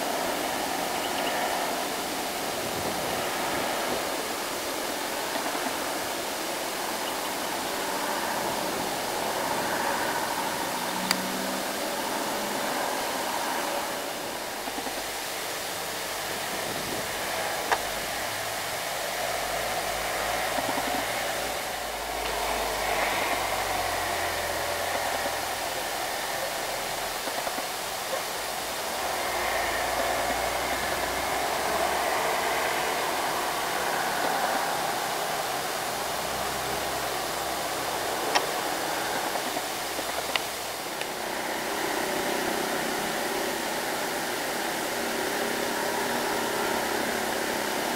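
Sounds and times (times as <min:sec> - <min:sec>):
trucks driving past: 0:00.0 - 0:47.9.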